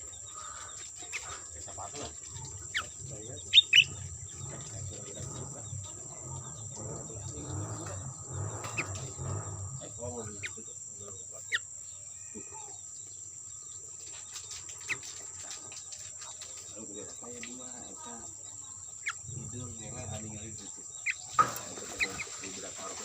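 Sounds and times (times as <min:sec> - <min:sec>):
bird chirps: 0:00.0 - 0:23.0
crickets and insects droning: 0:00.0 - 0:23.0.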